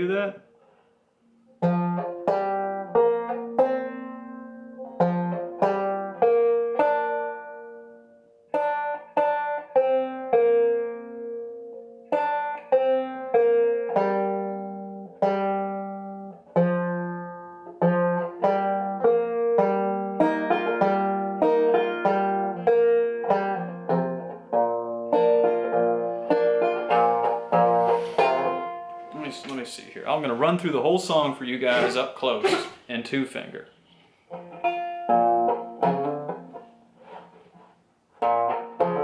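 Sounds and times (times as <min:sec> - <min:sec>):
banjo picking a melody: 0:01.2 - 0:39.0.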